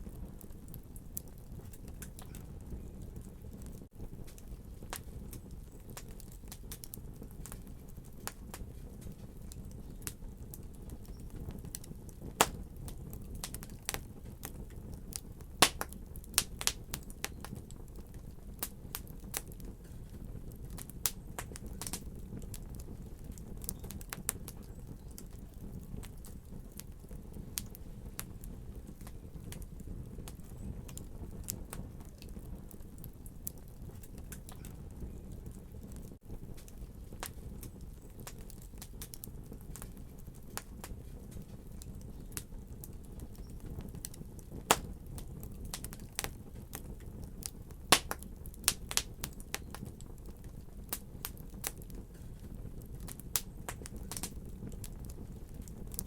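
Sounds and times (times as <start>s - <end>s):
sharp pops of fire: 0.0s - 56.0s
wood fire crackling: 0.0s - 56.0s.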